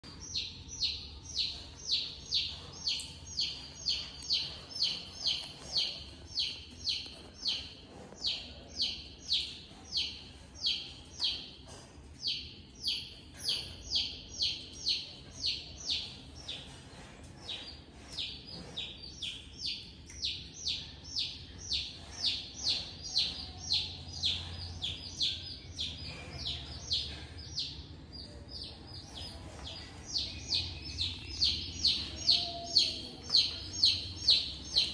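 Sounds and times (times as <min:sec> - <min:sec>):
bird chirping: 0:00.0 - 0:16.8, 0:17.4 - 0:34.9.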